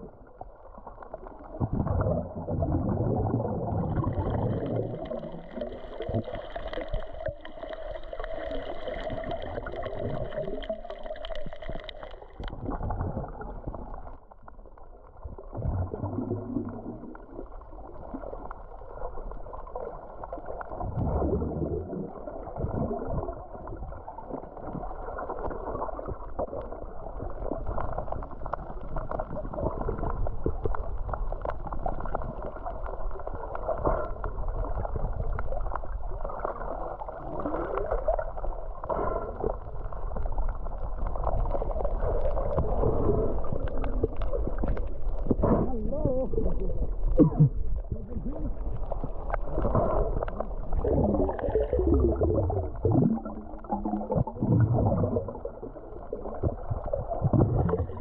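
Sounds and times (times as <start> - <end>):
low underwater rumbles: 0.0 - 58.0
underwater water rushing: 0.0 - 58.0.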